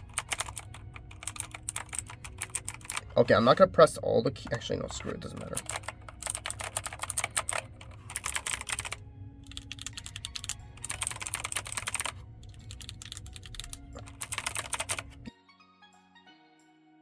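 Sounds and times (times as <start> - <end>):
keyboard typing clatter: 0.0 - 3.2, 4.5 - 15.3
soft music: 0.0 - 17.0.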